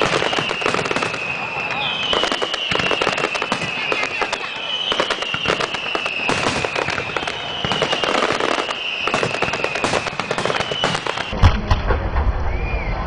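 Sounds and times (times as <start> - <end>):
high whistle-like tone: 0.0 - 11.4, 12.4 - 13.0
fireworks bangs and crackles: 0.0 - 13.0.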